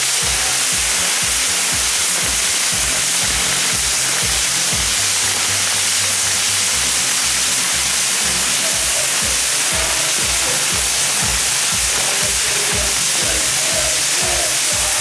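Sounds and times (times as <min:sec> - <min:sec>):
firework fountains hissing: 0:00.0 - 0:15.0
music with bass beat: 0:00.0 - 0:15.0.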